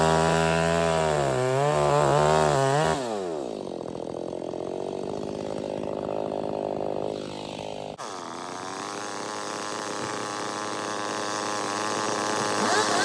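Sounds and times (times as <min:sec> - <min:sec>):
chainsaw engine running: 0:00.0 - 0:13.0.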